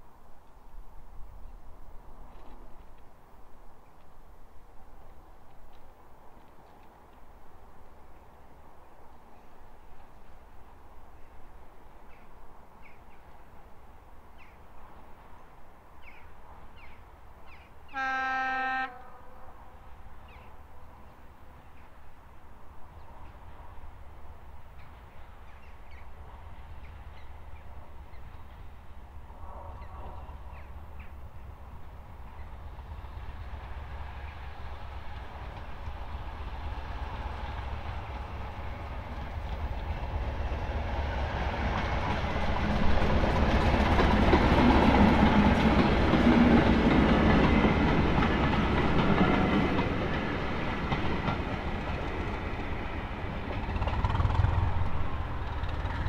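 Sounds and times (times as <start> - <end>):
train running past: 7.1 - 56.0.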